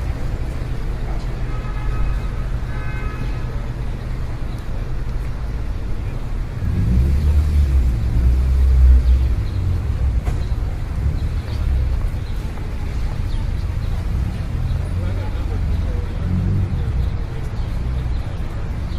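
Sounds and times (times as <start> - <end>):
low rumble of road traffic: 0.0 - 18.9.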